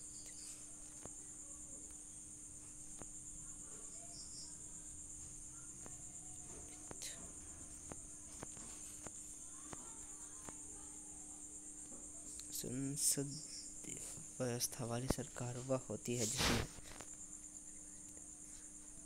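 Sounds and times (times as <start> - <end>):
faint low hum: 0.0 - 19.0
insects chirring: 0.0 - 19.0.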